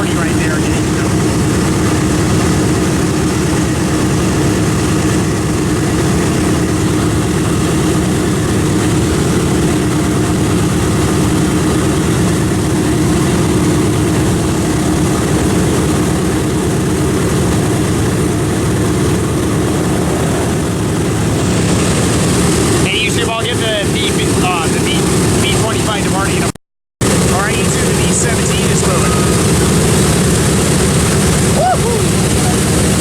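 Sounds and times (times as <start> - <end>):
propeller aircraft engine droning: 0.0 - 33.0.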